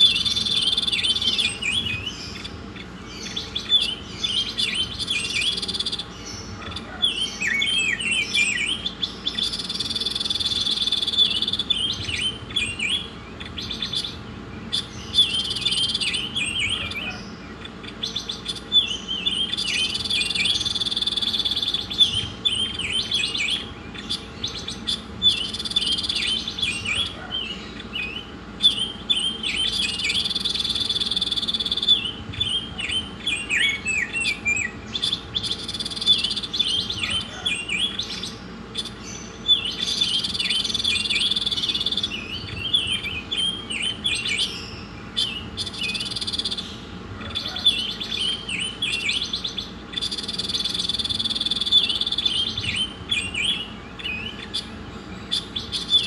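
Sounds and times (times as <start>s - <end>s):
faint steady hum: 0.0s - 56.0s
songbird chirps and buzzy trills: 0.0s - 56.0s.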